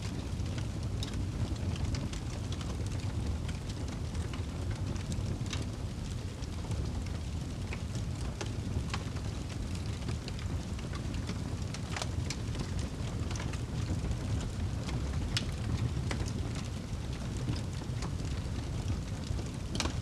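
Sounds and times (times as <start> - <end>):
campfire crackling and popping: 0.0 - 20.0
low fire rumble: 0.0 - 20.0.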